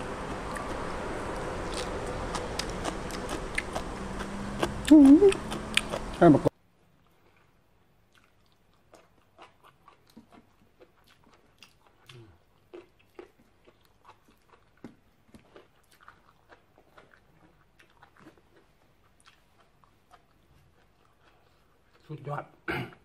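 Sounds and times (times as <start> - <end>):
chewing crisp beans: 0.0 - 23.0.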